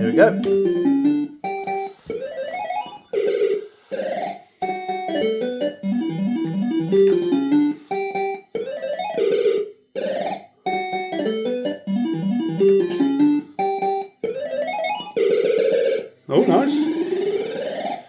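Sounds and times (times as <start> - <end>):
fruit machine electronic tune: 0.0 - 18.0.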